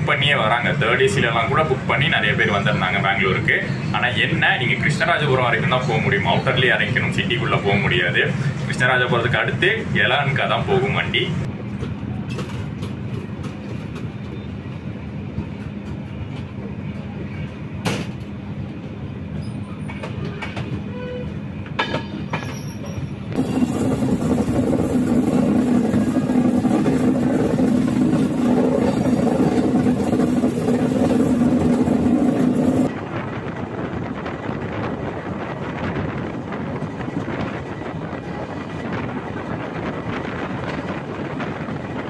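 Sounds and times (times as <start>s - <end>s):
train rumble from on board: 0.0s - 42.0s.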